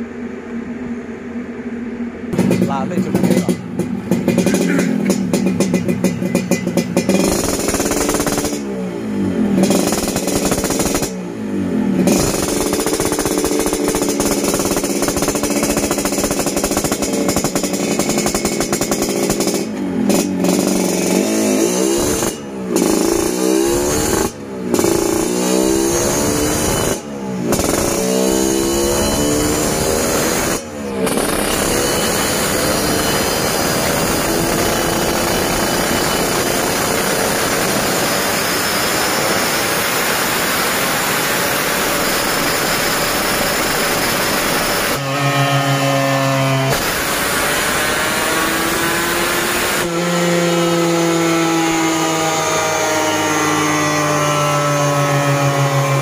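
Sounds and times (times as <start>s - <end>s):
two-stroke motorcycle engine revving: 1.8s - 56.0s.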